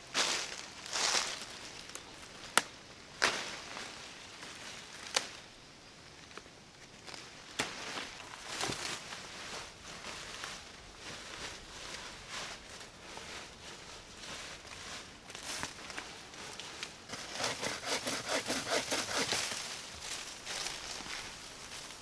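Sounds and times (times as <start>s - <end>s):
leaves and twigs rustling: 0.0s - 5.5s, 6.1s - 22.0s.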